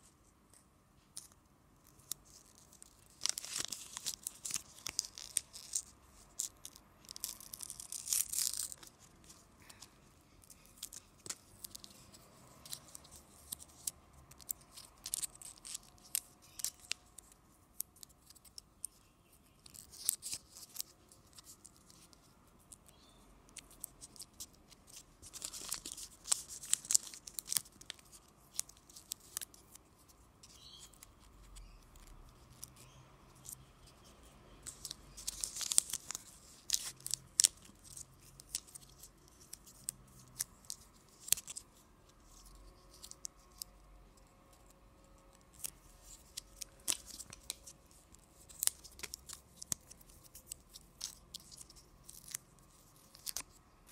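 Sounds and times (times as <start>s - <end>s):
plastic wrapping crinkling and tearing: 1.2s - 53.9s.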